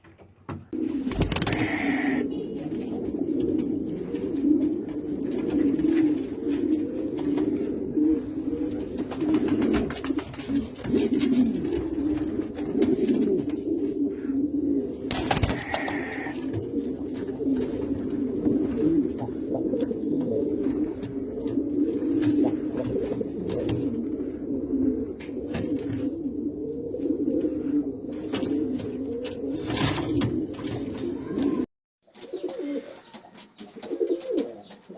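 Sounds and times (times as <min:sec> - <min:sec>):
pigeons cooing: 0:00.6 - 0:34.9.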